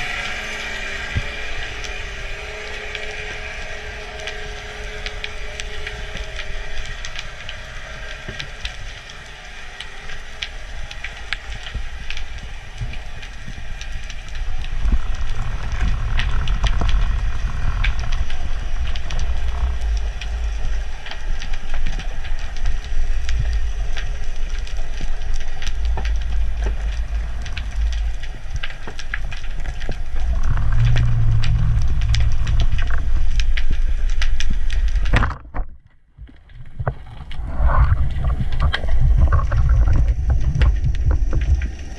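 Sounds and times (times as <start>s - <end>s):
small crackles and clicks: 0.0s - 41.9s
water rumbling and sloshing: 0.0s - 41.9s.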